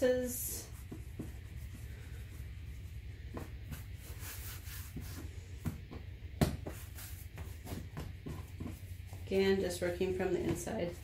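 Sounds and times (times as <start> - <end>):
hands rolling dough: 0.0 - 11.0
steady low hum: 0.0 - 11.0.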